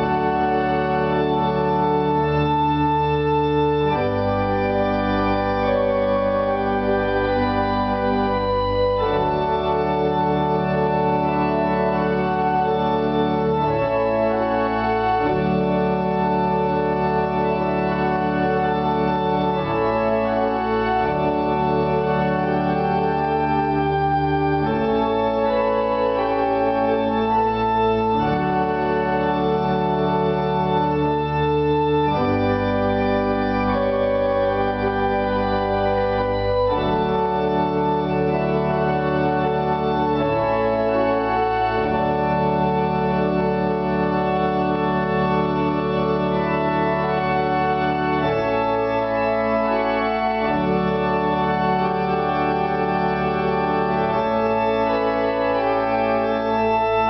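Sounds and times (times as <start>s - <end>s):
pipe organ chords: 0.0s - 57.0s.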